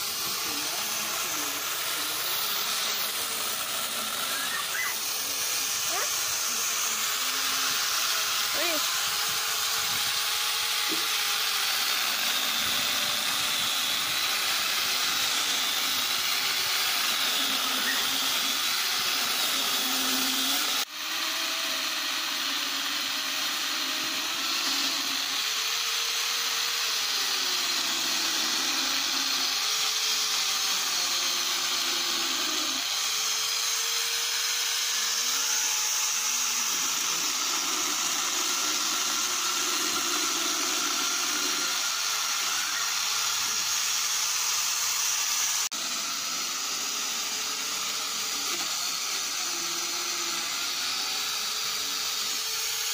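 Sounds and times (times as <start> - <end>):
electric chainsaw cutting wood: 0.0 - 52.9.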